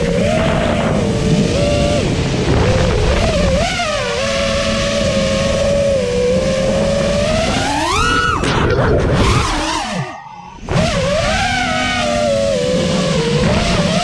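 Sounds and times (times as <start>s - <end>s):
drone motors whining: 0.0s - 14.0s
wind rushing over microphone: 0.0s - 14.0s.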